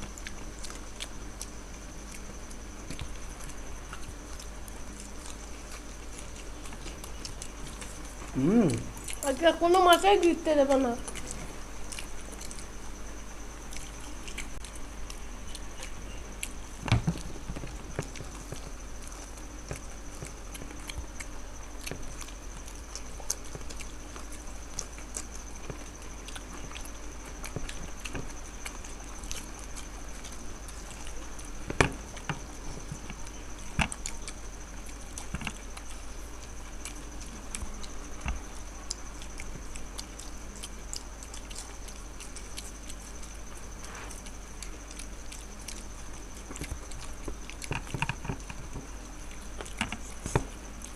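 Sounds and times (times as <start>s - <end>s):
chewing and mouth sounds: 0.0s - 50.9s
faint high whine: 0.0s - 50.9s.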